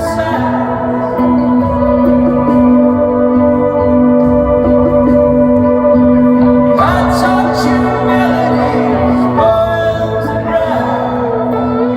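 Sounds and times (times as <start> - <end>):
live rock band playing: 0.0 - 11.9.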